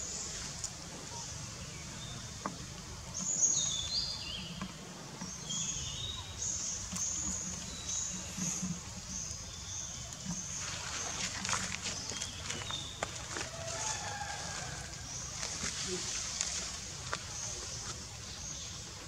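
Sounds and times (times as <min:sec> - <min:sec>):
birdsong: 0:00.0 - 0:19.0.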